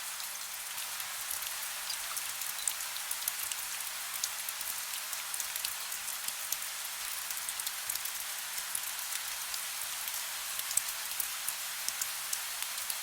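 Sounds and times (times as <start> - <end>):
rain drops ticking on a surface: 0.0 - 13.0.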